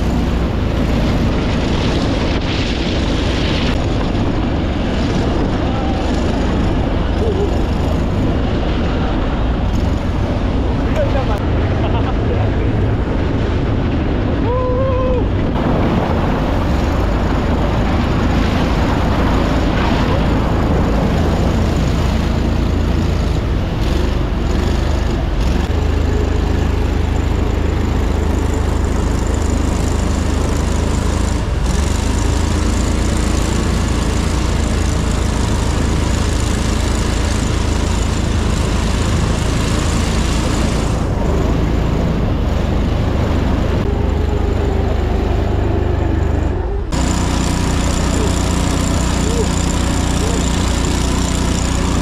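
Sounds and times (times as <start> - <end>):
vehicle engine droning: 0.0 - 52.0.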